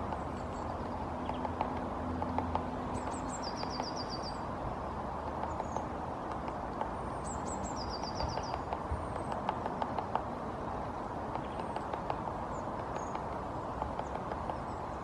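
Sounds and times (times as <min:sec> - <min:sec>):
woodpecker pecking wood: 0:00.0 - 0:04.2, 0:05.1 - 0:15.0.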